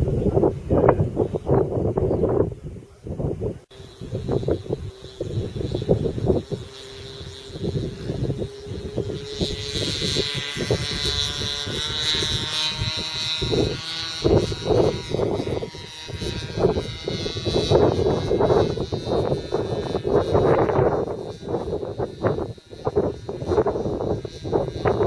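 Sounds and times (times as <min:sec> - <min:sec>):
aircraft engine whine: 0:00.0 - 0:25.0
wind buffeting microphone: 0:00.0 - 0:25.0.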